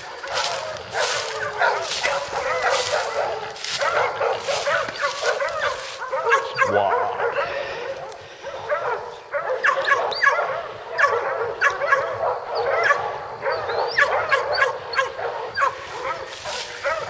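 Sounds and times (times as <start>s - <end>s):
dogs barking and yipping: 0.0s - 17.0s.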